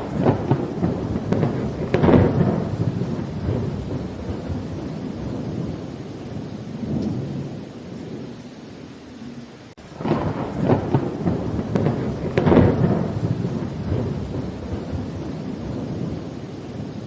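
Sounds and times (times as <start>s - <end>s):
thunder rolling: 0.0s - 8.3s, 9.9s - 17.0s
crackling thunder peal: 0.0s - 8.4s, 9.8s - 17.0s
steady rain: 0.0s - 17.0s.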